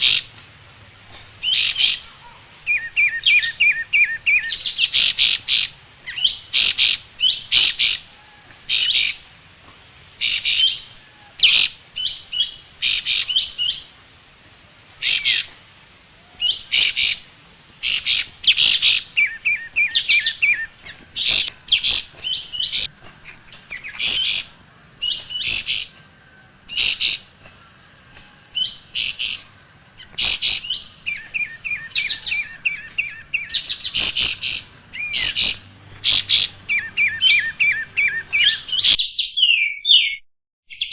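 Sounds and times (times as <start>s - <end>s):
bird chirping and trilling: 0.0s - 0.4s, 1.2s - 9.3s, 10.2s - 14.0s, 15.0s - 15.6s, 16.2s - 26.0s, 26.7s - 27.5s, 28.1s - 40.9s.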